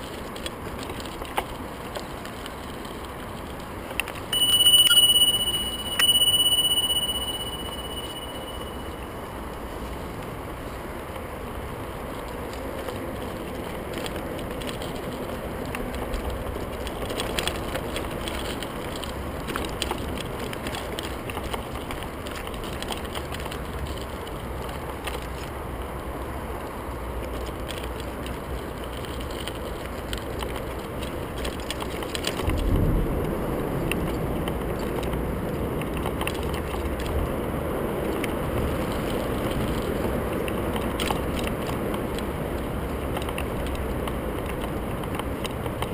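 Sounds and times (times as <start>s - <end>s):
bike clicks and rattles: 0.0s - 4.4s, 9.6s - 45.9s
bike tyres rolling on gravel: 0.0s - 4.7s, 8.6s - 45.9s.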